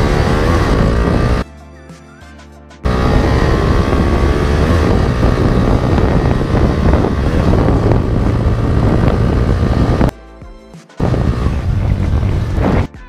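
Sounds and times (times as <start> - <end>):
motorcycle accelerating: 0.0 - 1.4, 2.8 - 10.1, 11.0 - 12.9
wind noise on microphone: 0.0 - 1.4, 2.9 - 10.1, 11.0 - 13.0.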